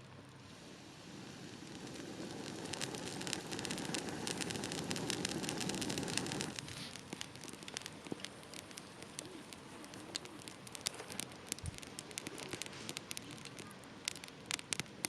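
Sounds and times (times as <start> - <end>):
wood fire crackling: 0.0 - 15.0
fire rushing noise: 0.4 - 15.0.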